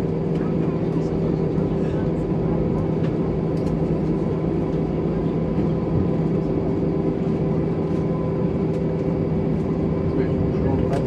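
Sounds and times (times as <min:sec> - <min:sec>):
airplane cabin engine hum: 0:00.0 - 0:11.0.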